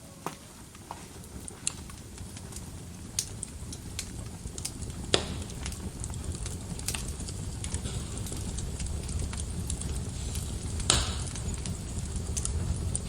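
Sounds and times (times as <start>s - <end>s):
low rumble of flames: 0.1s - 13.0s
wood fire crackling and popping: 0.1s - 13.0s.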